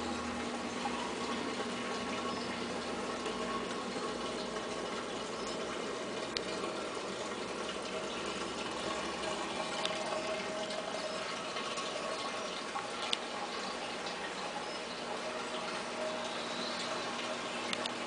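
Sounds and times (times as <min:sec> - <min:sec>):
aquarium water bubbling and trickling: 0:00.0 - 0:18.0
faint hum: 0:00.0 - 0:18.0.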